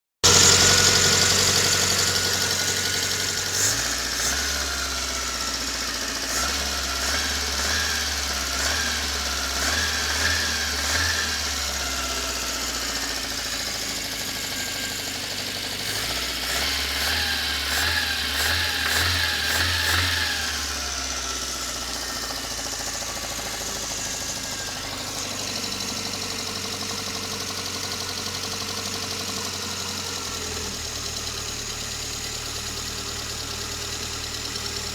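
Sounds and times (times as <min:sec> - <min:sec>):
car engine idling and revving: 0:00.2 - 0:34.9
engine knocking: 0:00.2 - 0:34.9.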